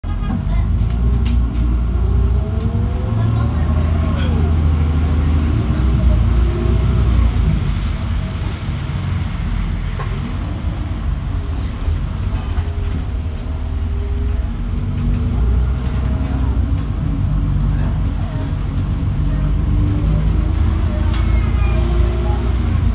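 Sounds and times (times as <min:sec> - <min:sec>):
bus engine rumble: 0:00.0 - 0:22.9
road and tyre noise: 0:00.0 - 0:22.9.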